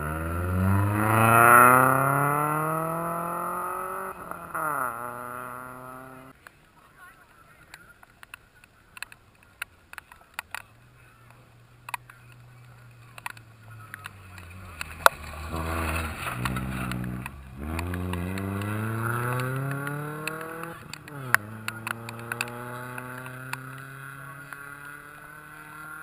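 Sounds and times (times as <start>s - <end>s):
rally car engine at full throttle: 0.0s - 6.4s, 8.2s - 26.0s.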